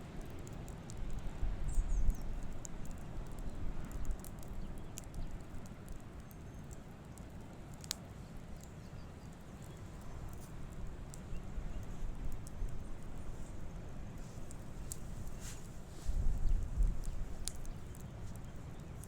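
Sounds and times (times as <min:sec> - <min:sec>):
campfire pops and ticks: 0:00.0 - 0:19.0
low steady fire rumble: 0:00.0 - 0:19.0.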